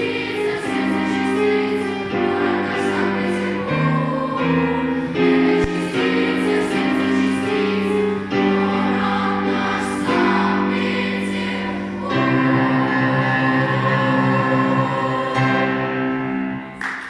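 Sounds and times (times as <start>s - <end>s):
choir singing: 0.0s - 16.8s.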